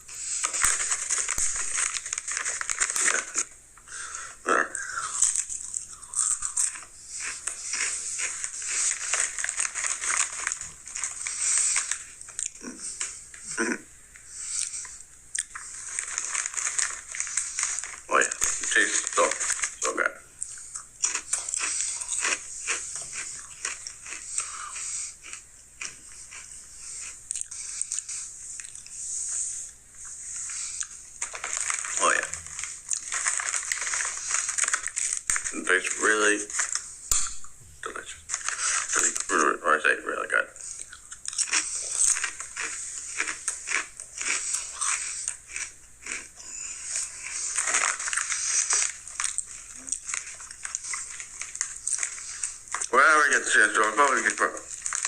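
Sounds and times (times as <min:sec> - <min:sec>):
person chewing crisps: 0:00.0 - 0:55.0
crunching potato chips: 0:00.1 - 0:55.0.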